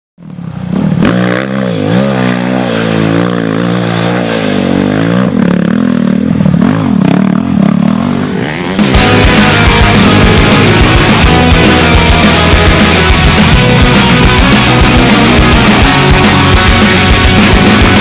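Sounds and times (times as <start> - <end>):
dirt bike engine revving: 0.2 - 18.0.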